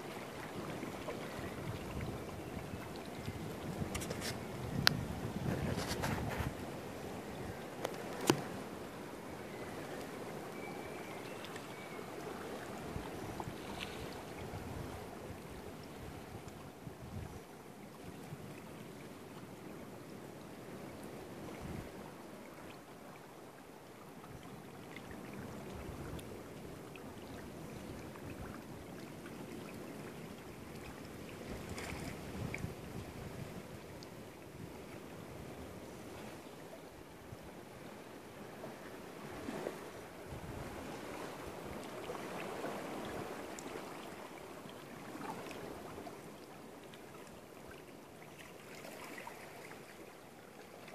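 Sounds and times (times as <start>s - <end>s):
shallow water lapping: 0.0s - 50.9s.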